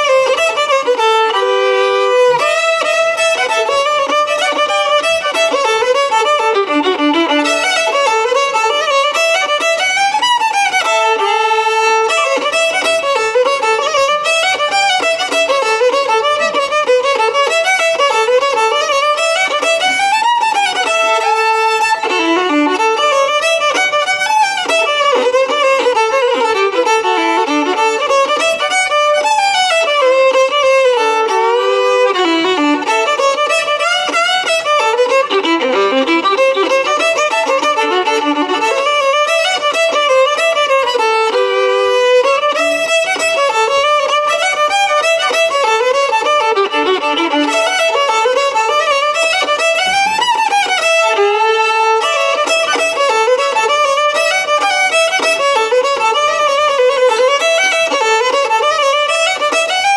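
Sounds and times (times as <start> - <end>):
solo fiddle melody: 0.0 - 59.9.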